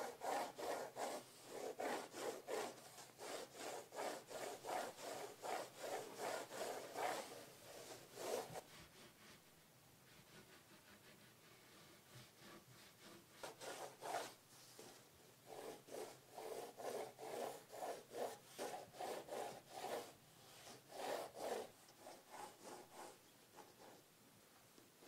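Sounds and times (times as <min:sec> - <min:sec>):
pencil sketching on paper: 0:00.0 - 0:24.1.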